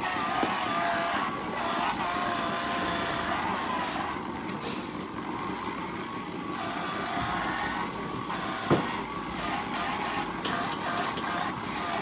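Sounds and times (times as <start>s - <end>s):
milking machinery running: 0.0s - 12.0s.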